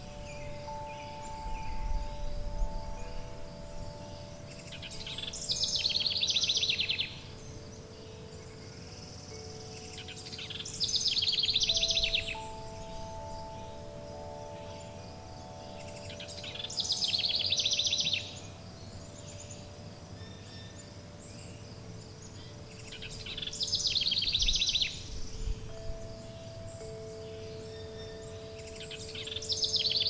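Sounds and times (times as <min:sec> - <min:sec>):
songbird trilling: 0:00.0 - 0:30.0
steady background hiss: 0:00.0 - 0:30.0
wind chimes ringing: 0:00.0 - 0:30.0.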